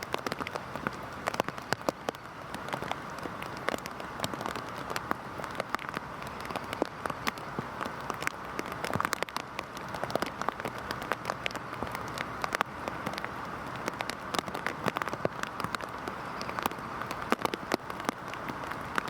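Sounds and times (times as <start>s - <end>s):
heavy rain falling: 0.0s - 19.0s
raindrops ticking close by: 0.0s - 19.0s.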